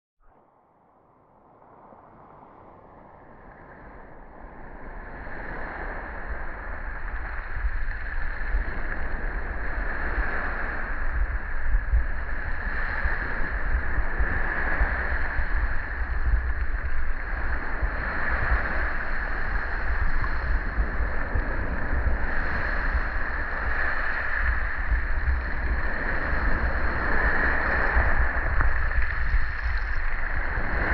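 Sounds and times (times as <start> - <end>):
wind rumble on microphone: 0.2 - 30.9.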